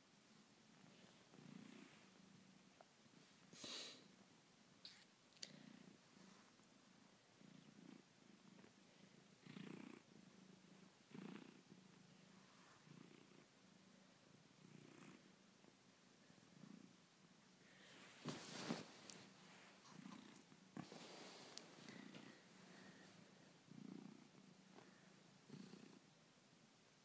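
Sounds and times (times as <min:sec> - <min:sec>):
cat purring: 0:00.2 - 0:27.0.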